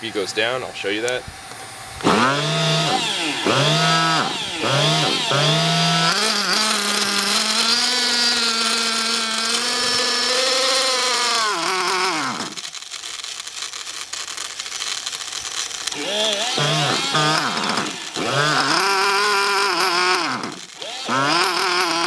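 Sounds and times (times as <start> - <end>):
small model engine revving: 2.0 - 22.0.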